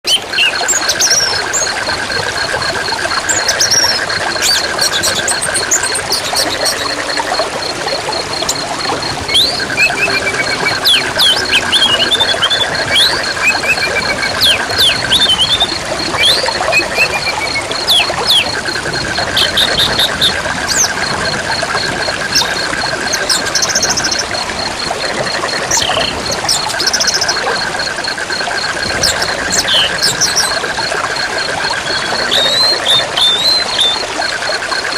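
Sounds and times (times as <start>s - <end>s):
birds chirping: 0.0s - 34.9s
rapid pulsing call: 0.0s - 34.9s
river water running: 0.0s - 34.9s.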